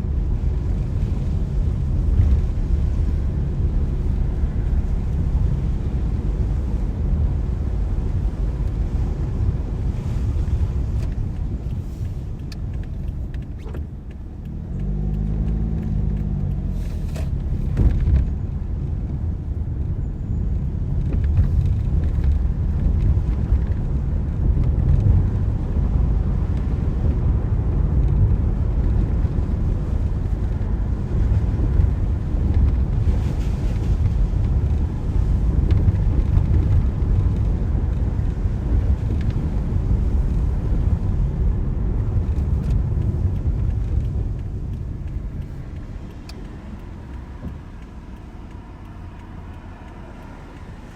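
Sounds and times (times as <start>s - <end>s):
car driving on wet road: 0.0s - 50.9s.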